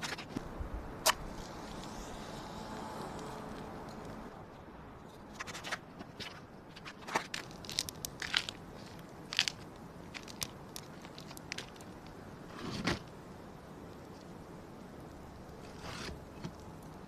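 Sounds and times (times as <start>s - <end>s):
campfire crackling: 0.0s - 17.0s
fire hissing: 0.6s - 5.0s, 7.6s - 17.0s.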